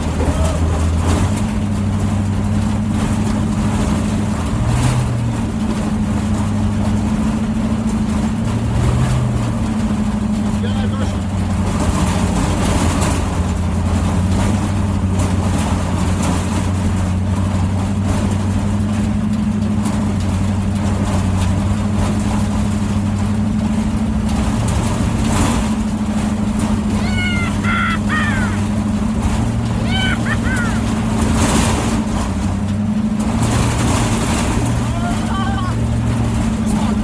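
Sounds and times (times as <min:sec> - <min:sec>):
car engine droning: 0:00.0 - 0:37.0.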